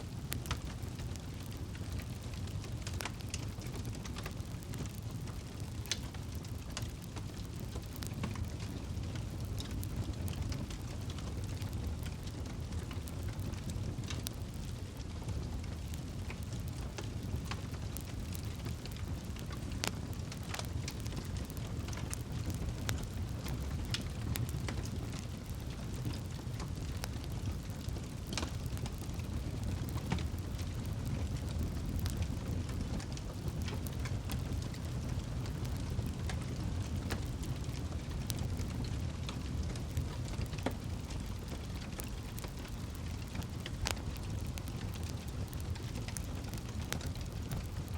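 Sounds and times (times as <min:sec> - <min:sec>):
campfire crackling: 0:00.0 - 0:47.9.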